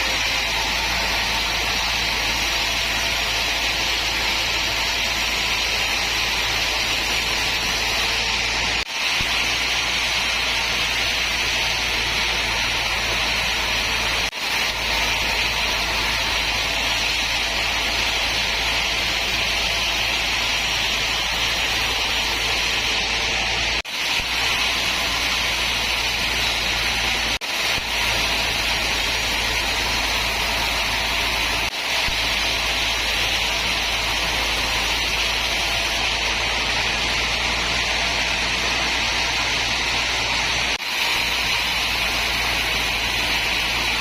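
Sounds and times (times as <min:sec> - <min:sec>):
sawmill machinery whirring: 0:00.0 - 0:44.0.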